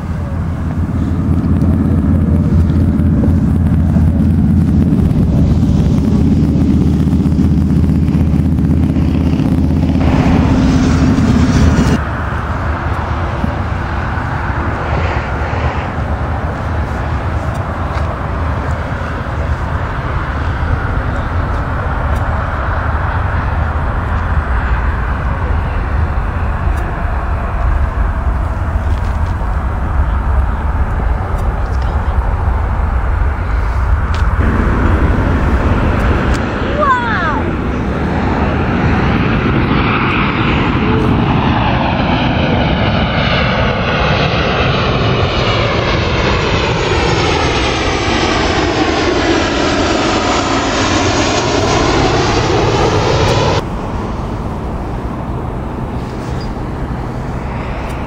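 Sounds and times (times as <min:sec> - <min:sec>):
distant jet hum: 0:00.0 - 0:58.0
jet engines droning: 0:00.0 - 0:58.0.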